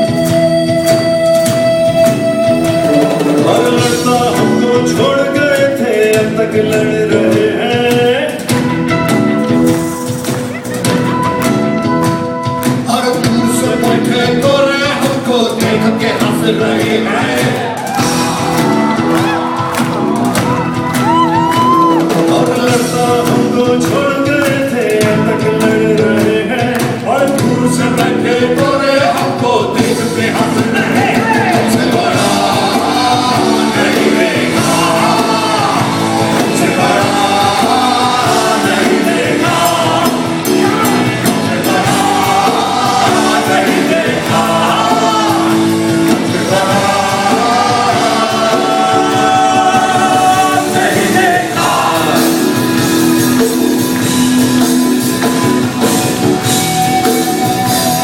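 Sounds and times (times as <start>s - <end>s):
live band with singing: 0.0s - 58.0s.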